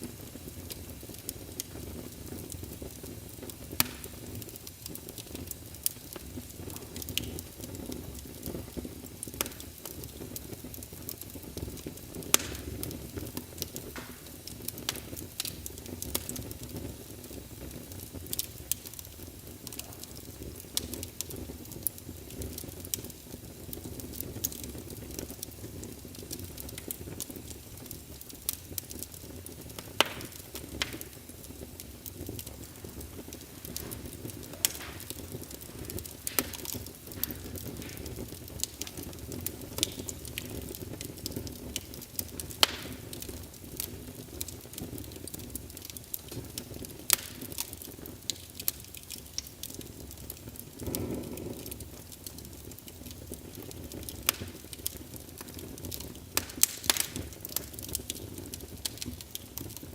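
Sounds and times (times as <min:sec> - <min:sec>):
fire crackles and pops: 0:00.0 - 0:59.9
logs burning in a fireplace: 0:00.0 - 0:59.9.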